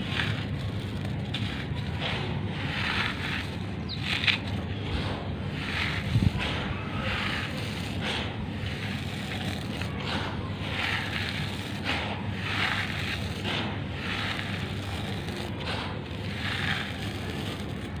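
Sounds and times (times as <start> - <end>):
gritty powder pouring: 0.0 - 18.0
low rumble: 0.0 - 18.0.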